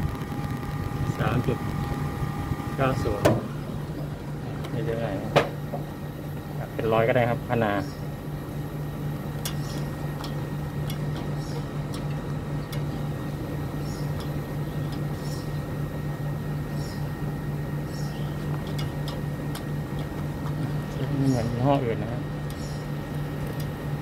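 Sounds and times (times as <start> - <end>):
air conditioner compressor hum: 0.0 - 24.0.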